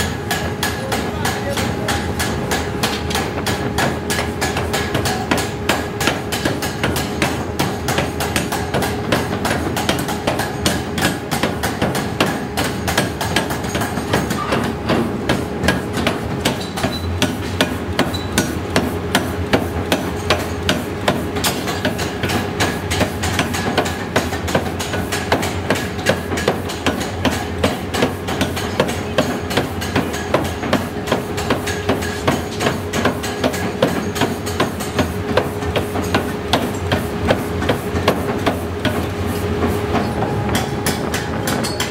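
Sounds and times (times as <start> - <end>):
power hammer striking steel: 0.0 - 41.9
steady machine hum: 0.0 - 41.9.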